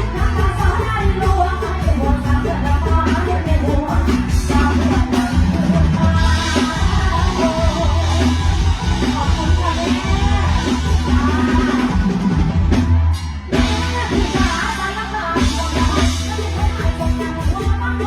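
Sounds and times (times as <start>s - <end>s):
person singing: 0.0s - 12.8s, 13.5s - 18.0s
heavy steady bass: 0.0s - 18.0s
live band music: 0.0s - 18.0s.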